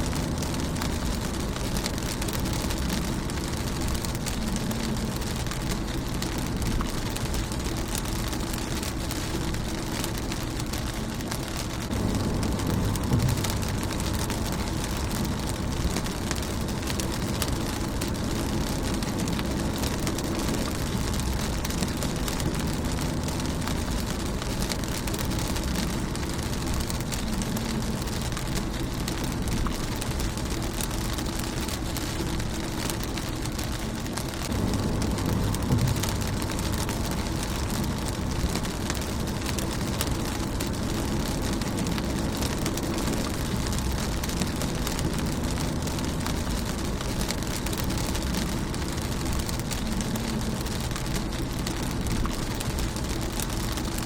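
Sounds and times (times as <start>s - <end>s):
low rumble: 0.0s - 54.0s
rain pattering on windshield: 0.0s - 54.0s.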